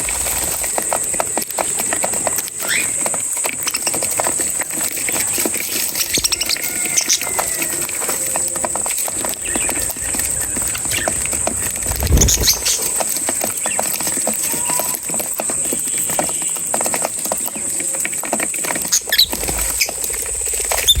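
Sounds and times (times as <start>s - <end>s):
birds pecking and scratching: 0.0s - 21.0s.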